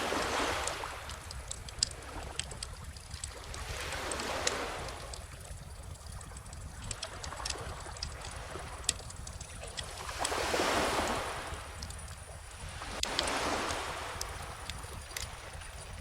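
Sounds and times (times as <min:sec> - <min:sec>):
ocean waves on shore: 0:00.0 - 0:16.0
bonfire crackling: 0:00.2 - 0:16.0.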